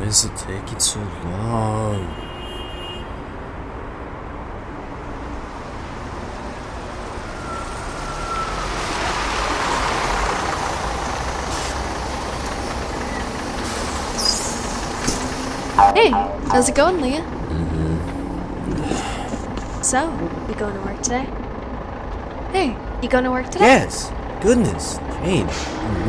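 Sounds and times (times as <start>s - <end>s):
large vehicle rumbling past: 3.6s - 15.8s, 16.5s - 26.0s.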